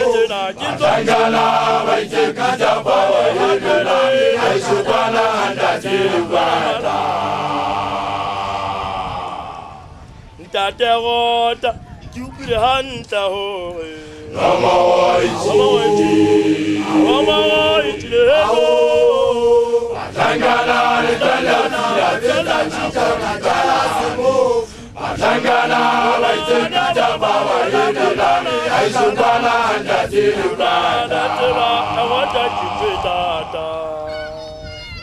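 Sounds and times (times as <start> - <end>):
men chanting without instruments: 0.0 - 10.0, 13.2 - 34.4.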